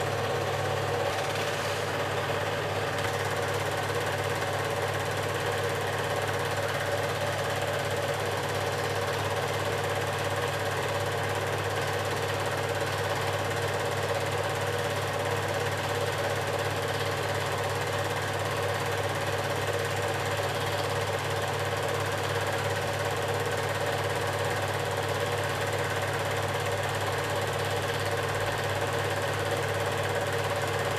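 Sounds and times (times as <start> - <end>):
film projector whirring: 0.0 - 30.9.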